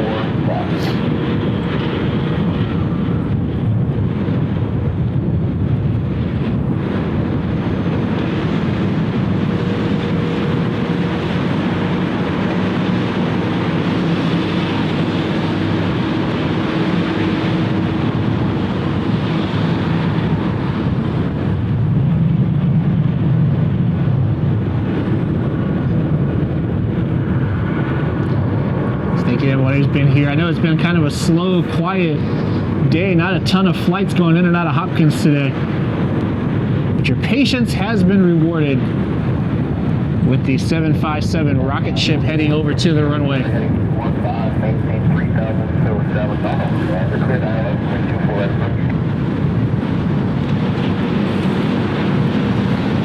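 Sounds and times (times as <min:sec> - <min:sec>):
jet engines rumbling at taxi: 0:00.0 - 0:53.0.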